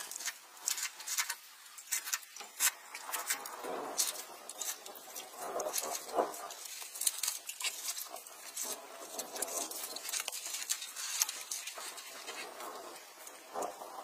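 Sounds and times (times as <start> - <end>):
watermelon crunching bites: 0.0 - 12.7.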